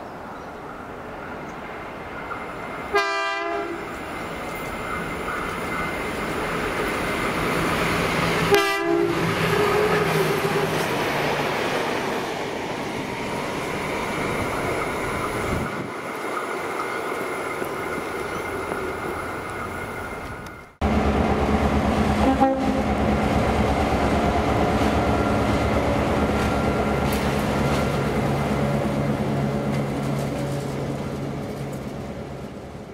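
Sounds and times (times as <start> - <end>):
diesel locomotive engines droning: 0.0 - 32.9
rail noise: 0.0 - 32.9
train rumbling: 0.0 - 32.9.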